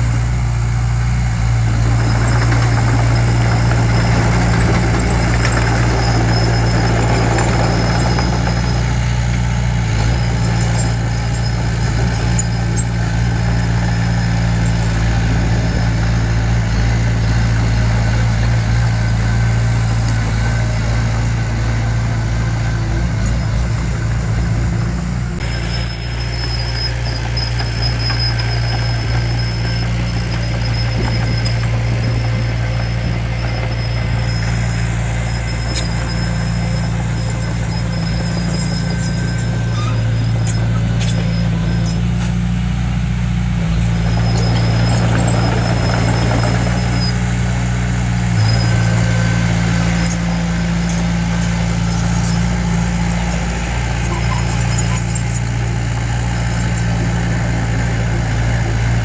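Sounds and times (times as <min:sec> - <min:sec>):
diesel engine running: 0:00.0 - 0:59.0
high-pitched squeal: 0:01.9 - 0:42.6, 0:43.6 - 0:47.5, 0:48.3 - 0:59.0.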